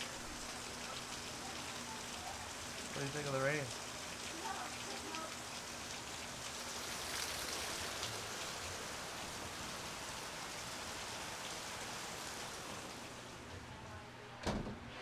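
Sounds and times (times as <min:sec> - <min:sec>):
heavy rain: 0:00.0 - 0:14.3.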